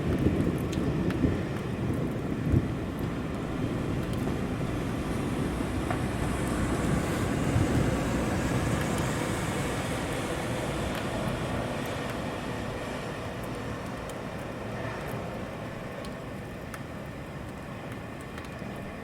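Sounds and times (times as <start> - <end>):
vehicle rumble: 0.0 - 16.2
steady rain: 0.0 - 19.0
traffic on wet street: 0.0 - 19.0.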